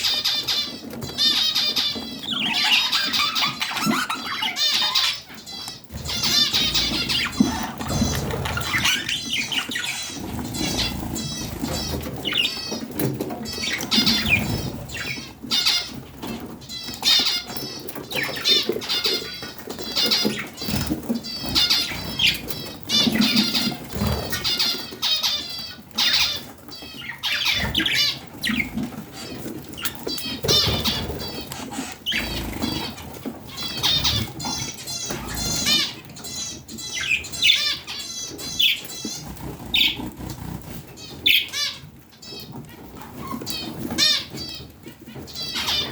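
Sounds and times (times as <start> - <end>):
budgerigars chattering: 0.0 - 26.4, 27.0 - 42.4.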